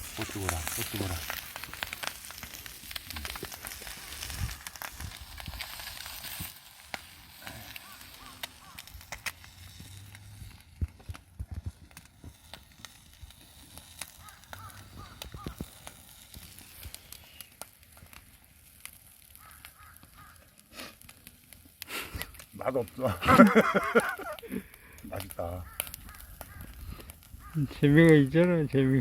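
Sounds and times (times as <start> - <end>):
campfire crackling and popping: 0.0 - 29.0
steady hiss: 0.0 - 29.0.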